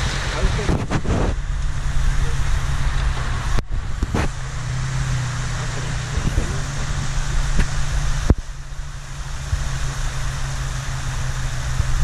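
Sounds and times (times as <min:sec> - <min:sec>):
engine running at low revs: 0:00.0 - 0:12.0
water rushing: 0:00.0 - 0:12.0.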